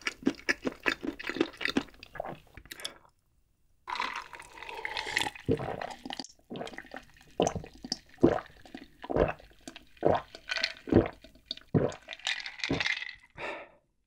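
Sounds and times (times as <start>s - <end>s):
person gulping a drink: 0.0s - 3.2s, 3.9s - 13.7s.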